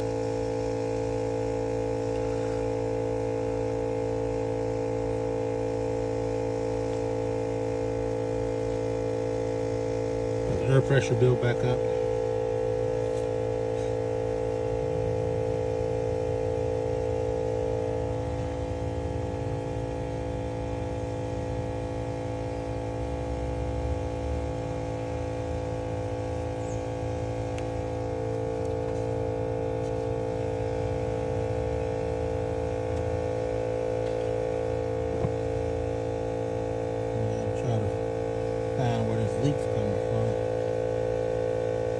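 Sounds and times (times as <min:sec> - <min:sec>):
air compressor motor humming: 0:00.0 - 0:41.9.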